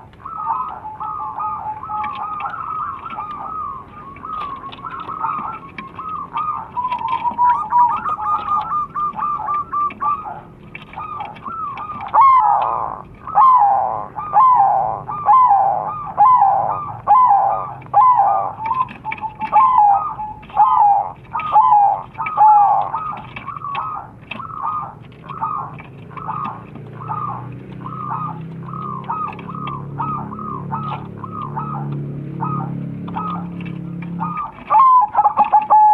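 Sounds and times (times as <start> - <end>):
doves cooing: 0.0 - 35.9.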